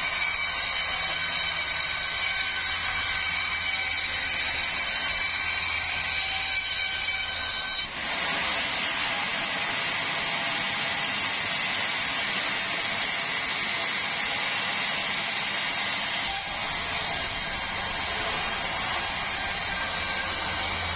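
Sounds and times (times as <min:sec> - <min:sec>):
saw cutting through log: 0:00.0 - 0:20.9.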